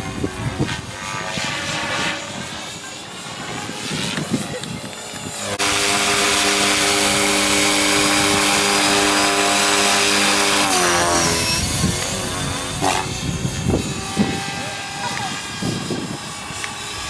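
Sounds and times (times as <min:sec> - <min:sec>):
radio-controlled helicopter humming: 0:00.0 - 0:17.0.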